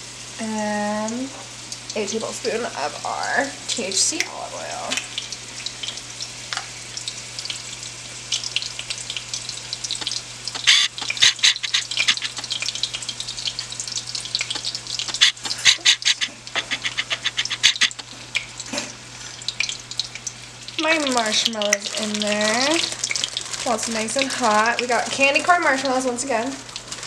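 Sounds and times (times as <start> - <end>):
butter and oil sizzling: 0.0 - 27.0.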